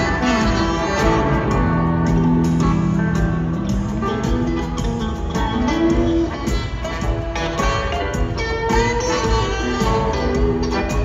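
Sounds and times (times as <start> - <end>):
bending electric guitar notes: 0.0 - 11.0
live rock band playing: 0.0 - 11.0.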